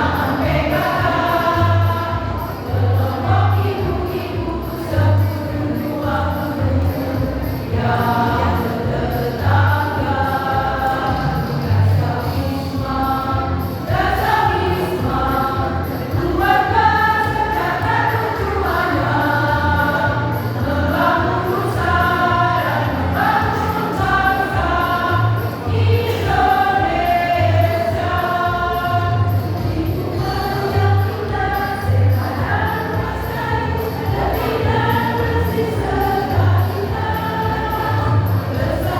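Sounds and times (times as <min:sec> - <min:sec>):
choir singing: 0:00.0 - 0:38.9
musical accompaniment: 0:00.0 - 0:38.9.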